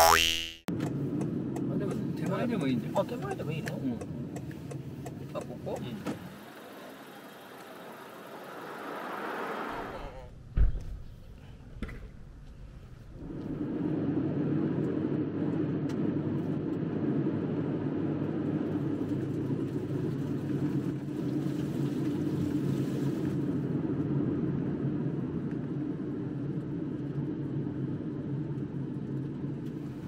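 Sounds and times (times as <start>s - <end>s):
car engine and tyre rumble: 0.7s - 30.0s.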